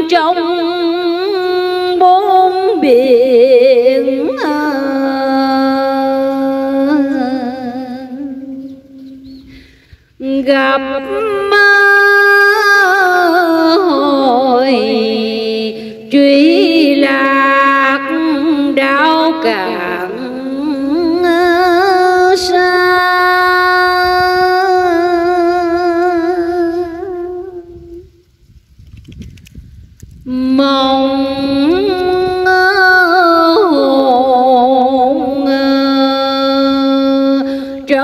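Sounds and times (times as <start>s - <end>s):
woman chanting: 0.0s - 8.8s, 10.2s - 28.0s, 30.3s - 38.0s.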